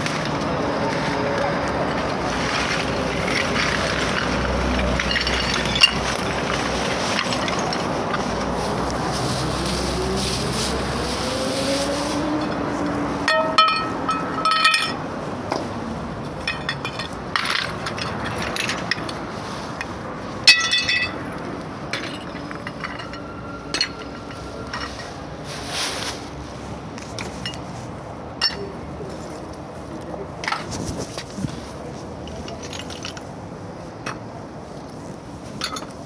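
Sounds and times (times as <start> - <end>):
street traffic noise: 0.0 - 36.0.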